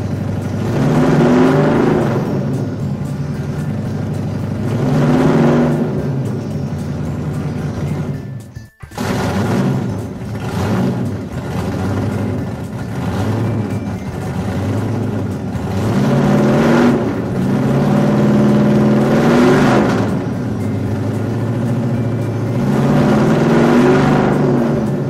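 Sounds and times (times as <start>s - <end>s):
vehicle engine revving: 0.0s - 25.0s.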